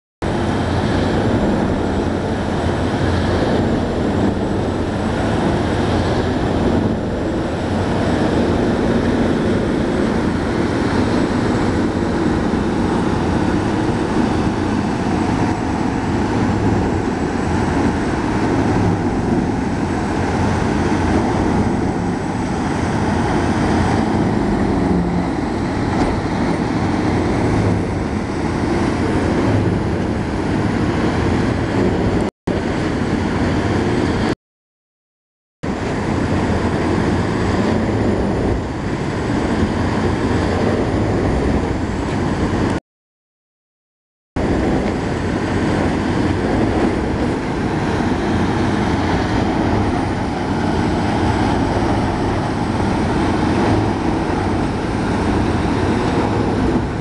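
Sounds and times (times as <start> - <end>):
wood grinder diesel drone: 0.2 - 34.2, 44.4 - 57.0.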